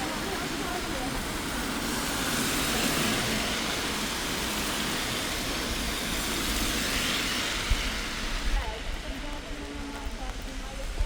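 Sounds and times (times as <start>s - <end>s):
city traffic: 0.0s - 11.0s
tyres swishing on wet street: 0.0s - 11.0s.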